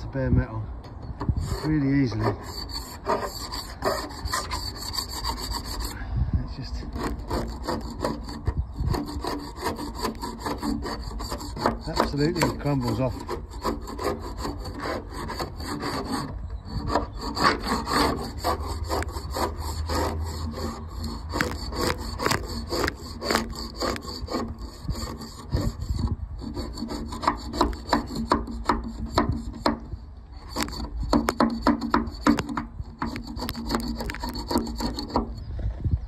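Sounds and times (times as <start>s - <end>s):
scraper scraping metal hull: 1.2s - 35.9s.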